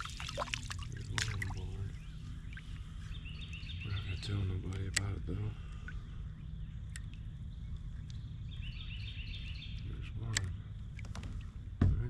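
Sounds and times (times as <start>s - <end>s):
low background rumble: 0.0s - 12.0s
bird chirping: 1.0s - 12.0s.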